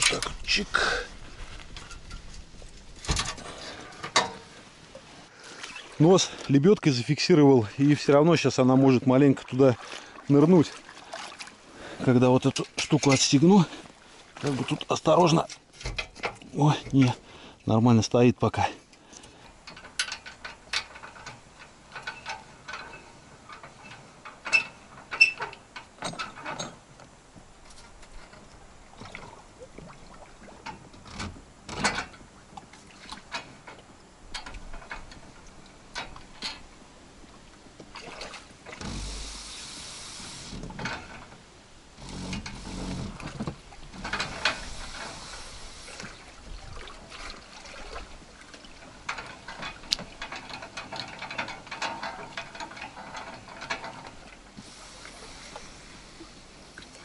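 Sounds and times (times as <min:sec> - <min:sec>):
metal clanks from boat trailer: 0:00.0 - 0:01.0, 0:01.7 - 0:04.6, 0:05.6 - 0:29.6, 0:30.5 - 0:36.7, 0:37.8 - 0:56.4.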